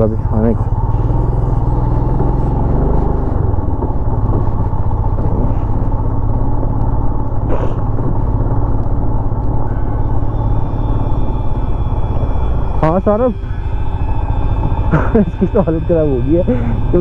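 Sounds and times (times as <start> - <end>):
motorcycle engine under load: 0.0 - 17.0.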